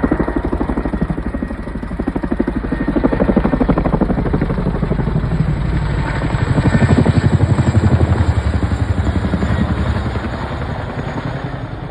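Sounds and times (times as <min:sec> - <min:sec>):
helicopter rotor beat: 0:00.0 - 0:11.9.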